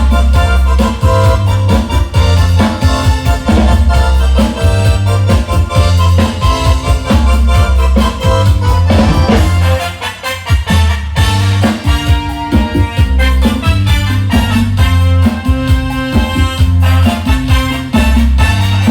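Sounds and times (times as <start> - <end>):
rapid drum strikes: 0.0 - 9.8, 10.6 - 18.9
electronic organ chords: 0.0 - 18.9
heavy bass: 0.0 - 18.9.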